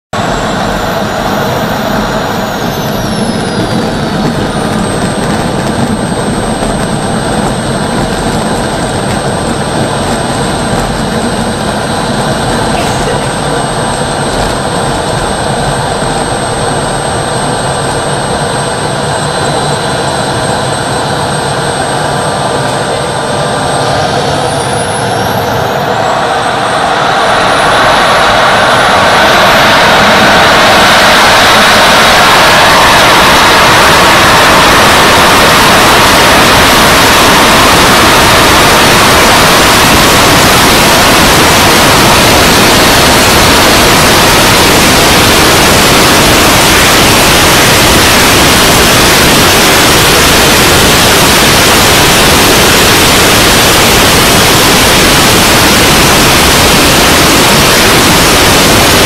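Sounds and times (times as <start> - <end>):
small jet engine rushing and whining: 0.0 - 59.0.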